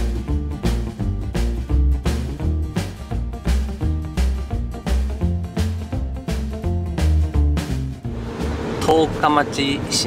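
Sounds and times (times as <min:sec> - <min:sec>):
background music with drum beat: 0:00.0 - 0:08.8.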